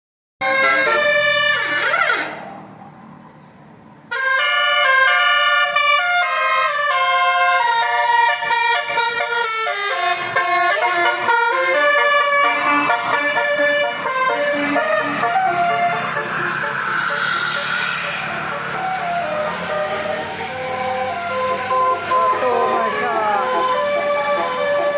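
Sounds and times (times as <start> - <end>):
multi-note vehicle horn tune: 0.4 - 1.9, 4.1 - 24.9.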